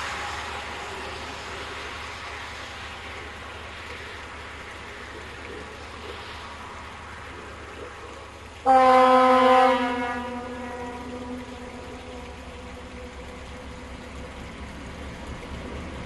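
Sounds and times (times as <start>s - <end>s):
car tyres hissing on slush: 0.0s - 16.0s.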